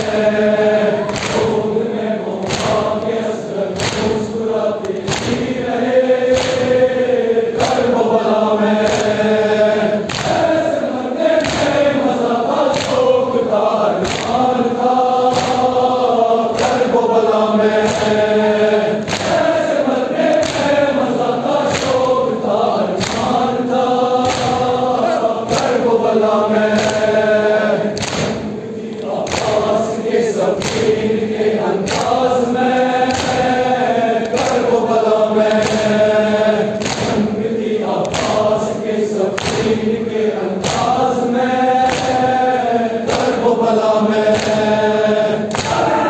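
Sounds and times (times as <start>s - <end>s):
men chanting in unison: 0.0s - 46.0s.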